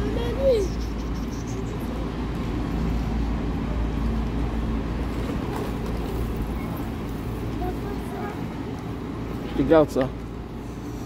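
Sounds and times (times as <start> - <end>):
city street noise: 0.0 - 11.0.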